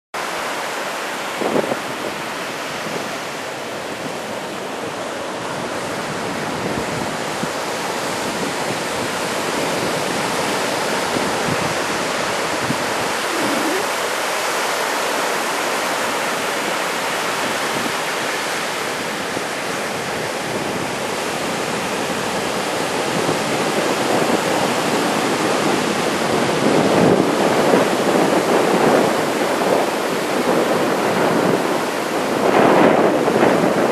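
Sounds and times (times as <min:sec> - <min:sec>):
surf washing on beach: 0:00.2 - 0:33.9
wind on microphone: 0:01.3 - 0:14.2, 0:17.4 - 0:33.9.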